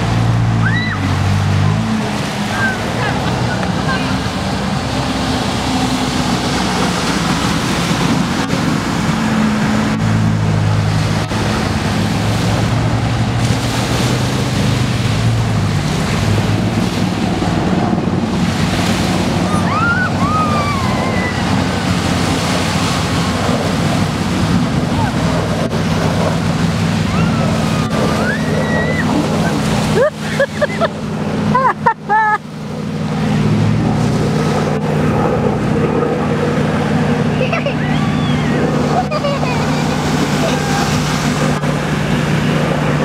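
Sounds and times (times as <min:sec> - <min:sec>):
churning water and spray: 0:00.0 - 0:43.0
jet ski engine running: 0:00.0 - 0:43.0.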